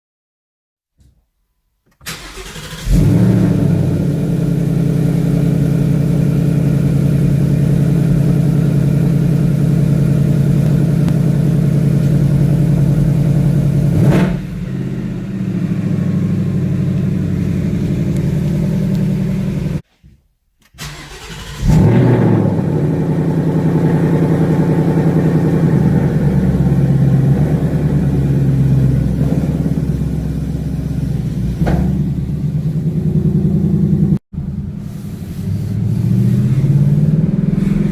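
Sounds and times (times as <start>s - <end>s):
car engine starting and idling: 2.0s - 19.8s, 20.7s - 37.9s.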